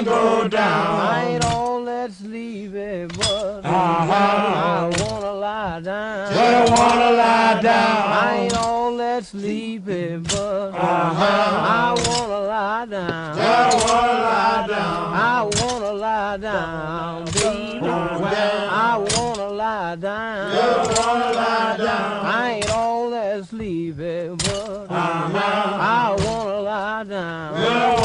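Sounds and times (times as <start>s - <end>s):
voices singing slow work song: 0.0s - 28.0s.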